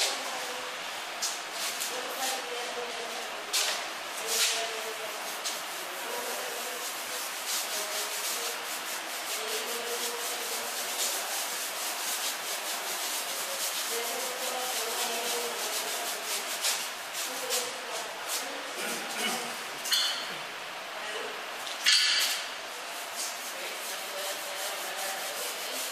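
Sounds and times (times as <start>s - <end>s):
paintbrush scrubbing rough wall: 0.0s - 19.6s, 22.4s - 25.9s.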